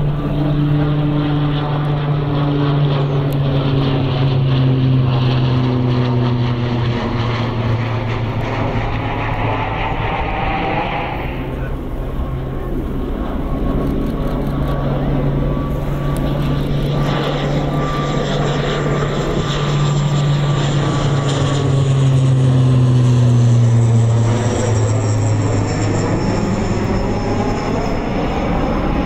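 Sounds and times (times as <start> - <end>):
turboprop aircraft propeller drone: 0.0 - 29.0.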